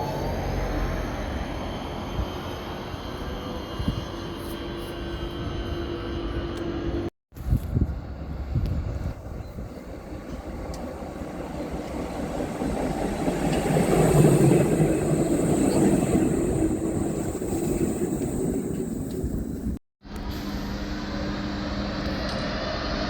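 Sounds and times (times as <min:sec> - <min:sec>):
train passing: 0:00.0 - 0:07.1, 0:07.9 - 0:23.0.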